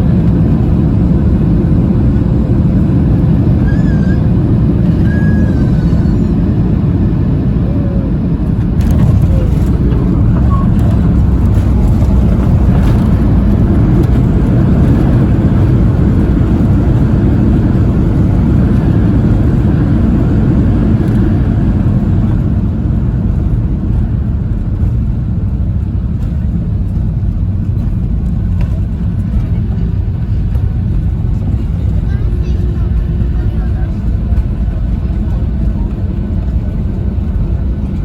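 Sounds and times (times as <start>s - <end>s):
airliner cabin low rumble: 0.0s - 38.0s.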